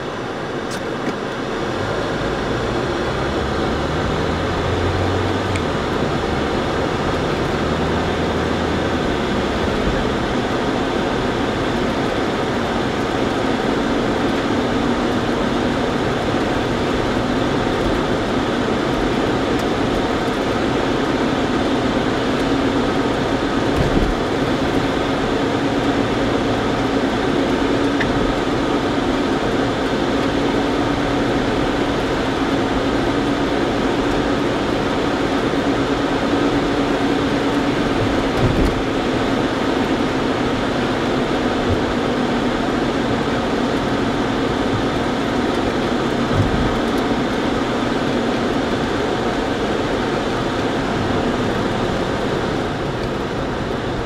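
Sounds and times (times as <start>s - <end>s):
car engine inside cabin: 0.0s - 54.0s.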